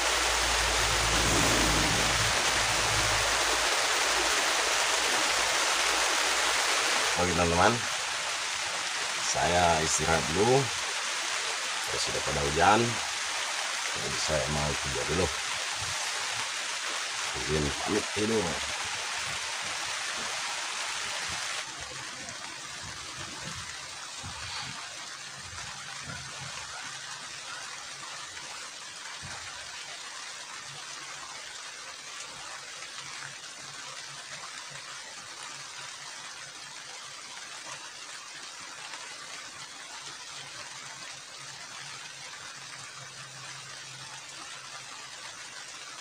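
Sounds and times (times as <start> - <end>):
heavy rain on shelter: 0.0 - 46.0.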